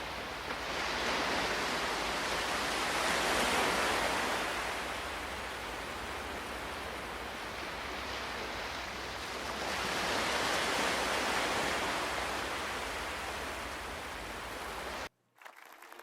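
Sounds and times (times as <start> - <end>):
ocean waves washing on shore: 0.0 - 15.1.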